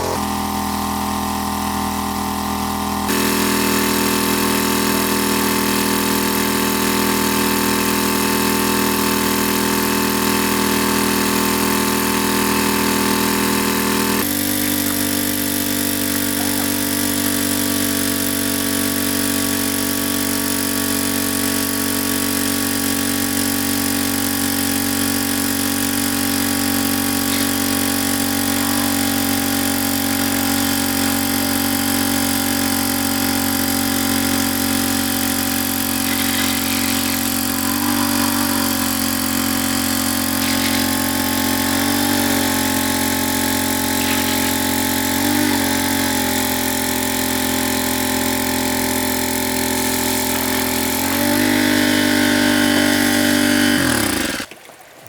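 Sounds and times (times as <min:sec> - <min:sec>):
small engine running: 0:00.0 - 0:54.6.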